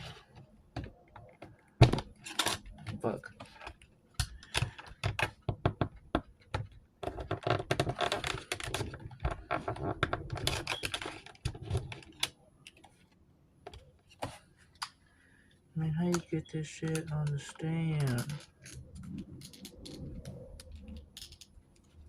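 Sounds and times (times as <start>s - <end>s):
plastic clicks taps and rattles: 0.7s - 13.0s, 16.1s - 22.0s.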